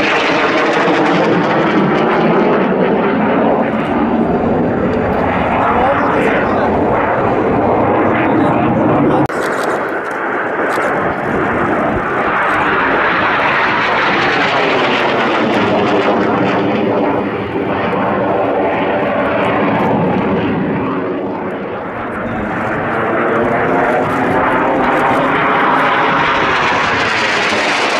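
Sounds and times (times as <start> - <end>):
jet engines roaring overhead: 0.0 - 27.9.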